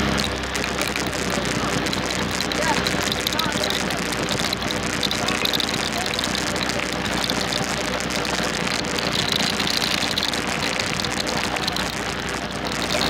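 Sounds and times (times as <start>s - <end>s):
atv engine running: 0.0s - 13.0s
tyres on gravel: 0.0s - 13.0s.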